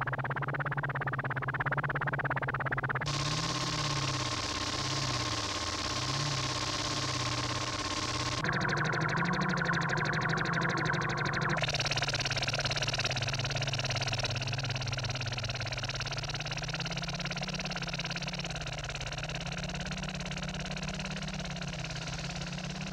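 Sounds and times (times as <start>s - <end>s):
helicopter engine and rotor: 0.0s - 22.9s.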